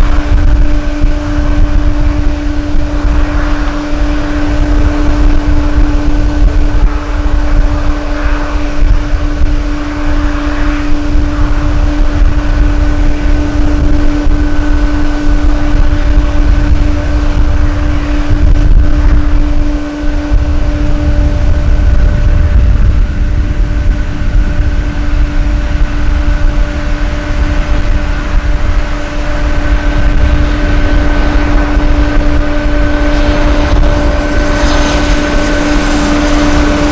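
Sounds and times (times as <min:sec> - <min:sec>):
jet engines droning: 0:00.0 - 0:36.9
wind buffeting the microphone: 0:00.0 - 0:36.9.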